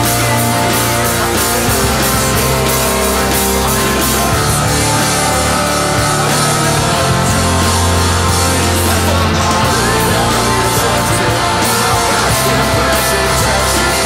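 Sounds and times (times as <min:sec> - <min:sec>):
instrumental punk rock band: 0:00.0 - 0:14.0.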